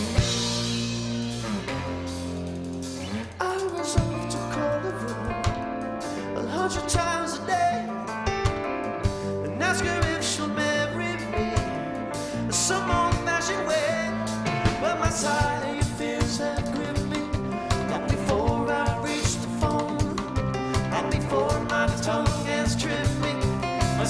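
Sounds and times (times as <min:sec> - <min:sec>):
drum kit beat: 0:00.0 - 0:06.1, 0:08.3 - 0:24.0
electric guitars: 0:00.0 - 0:24.0
keyboard: 0:00.0 - 0:24.0
person singing: 0:03.1 - 0:08.3, 0:09.3 - 0:24.0.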